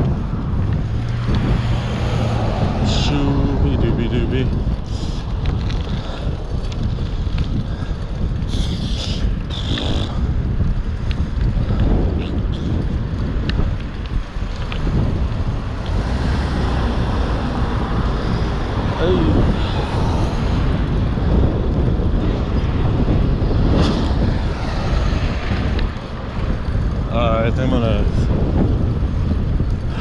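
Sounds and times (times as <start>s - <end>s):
road noise rumble: 0.0s - 30.0s
wind buffeting microphone: 0.0s - 30.0s.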